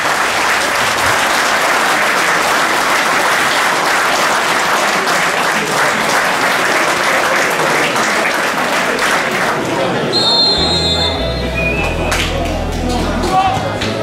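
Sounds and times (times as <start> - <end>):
crowd applause: 0.0 - 14.0.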